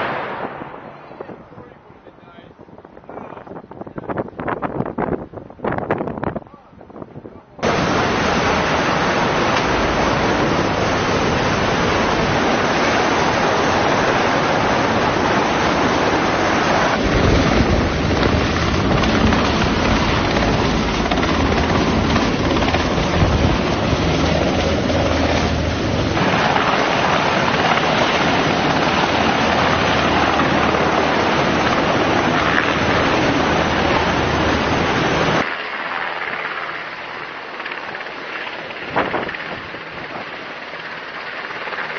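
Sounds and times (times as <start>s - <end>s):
loud steady rushing noise: 7.6s - 41.9s.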